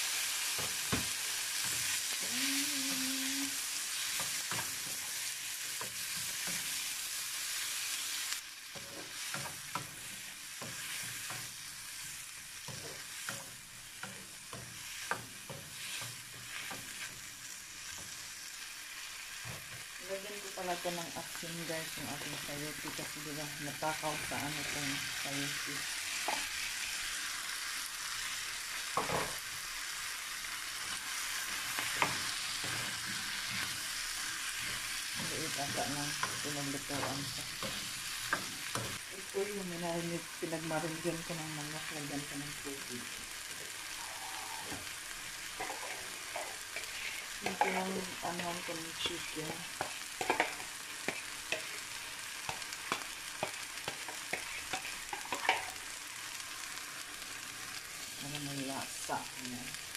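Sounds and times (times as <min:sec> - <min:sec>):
vegetables sizzling in a frying pan: 0:00.0 - 0:59.9.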